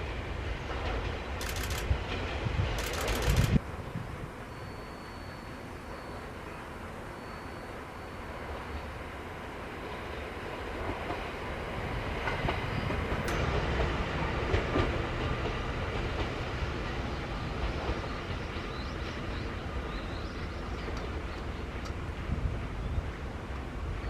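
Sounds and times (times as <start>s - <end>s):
electric train rumble: 0.0s - 24.0s.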